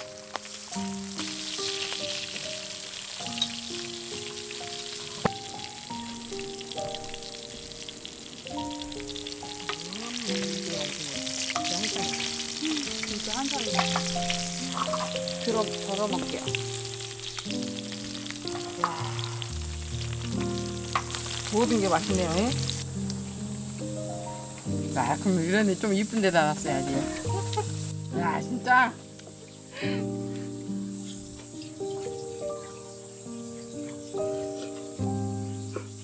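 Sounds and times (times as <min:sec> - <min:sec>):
background music with held notes: 0:00.0 - 0:36.0
food frying and sizzling: 0:00.0 - 0:36.0.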